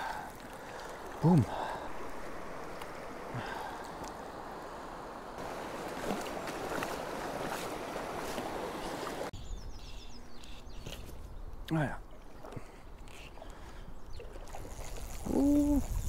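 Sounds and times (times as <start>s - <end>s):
stream water flowing: 0.0s - 9.4s, 10.4s - 16.0s.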